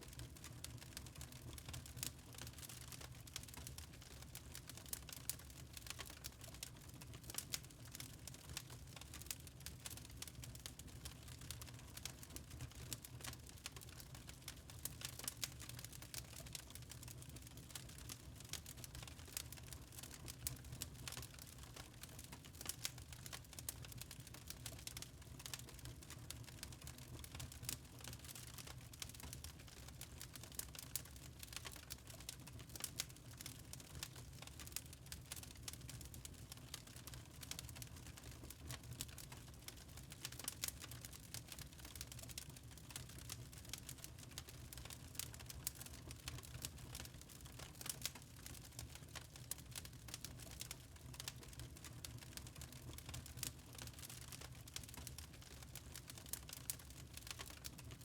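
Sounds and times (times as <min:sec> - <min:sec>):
fire crackling and popping: 0:00.1 - 0:58.0.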